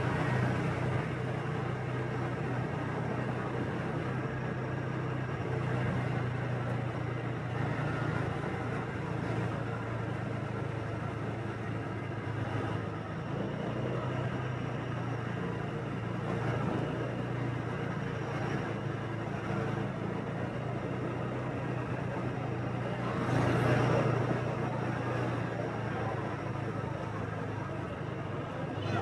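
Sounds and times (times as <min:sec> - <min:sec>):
road and traffic noise: 0:00.0 - 0:29.0.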